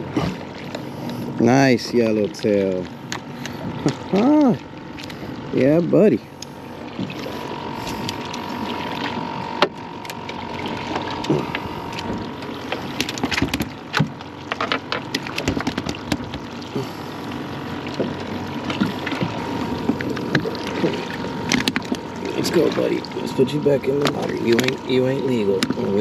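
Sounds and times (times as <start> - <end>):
water slapping against a hull: 0.0 - 26.0.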